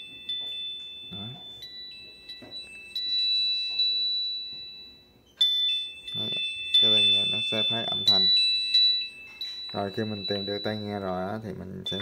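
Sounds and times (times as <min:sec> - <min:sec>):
earbud alert chime: 0:00.0 - 0:12.0.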